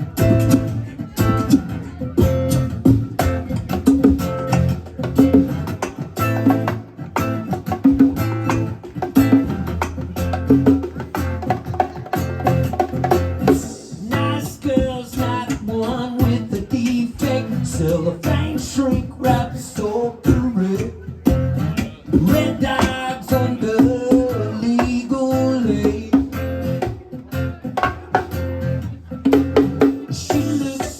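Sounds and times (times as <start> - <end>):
bass line: 0.0 - 30.9
plucked acoustic guitar: 0.0 - 30.9.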